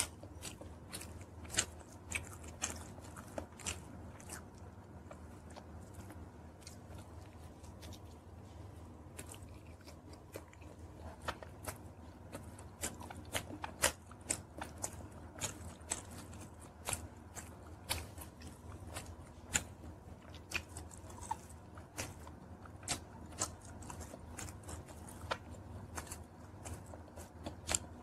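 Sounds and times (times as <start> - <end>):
low steady hum: 0.0 - 28.0
pizza crust crunching: 0.0 - 28.0.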